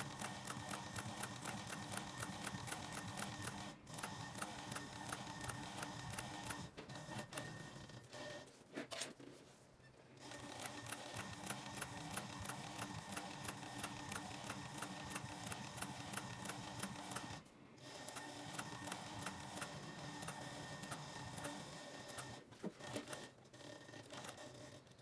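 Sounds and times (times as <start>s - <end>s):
sewing machine stitching leather: 0.0s - 8.4s, 10.2s - 25.0s.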